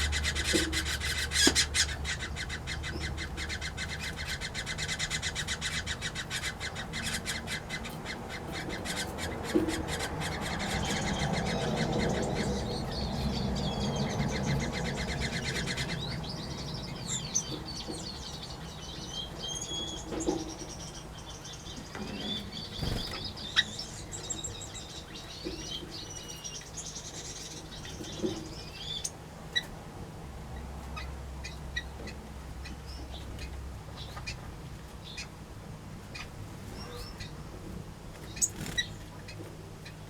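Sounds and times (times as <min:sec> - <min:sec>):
small birds chirping: 0:00.0 - 0:29.8, 0:30.5 - 0:40.0.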